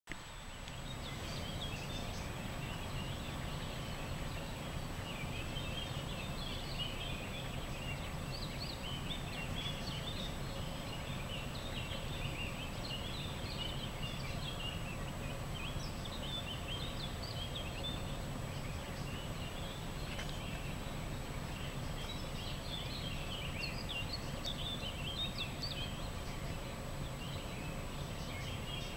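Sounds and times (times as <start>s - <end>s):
low background noise: 0.1s - 28.9s.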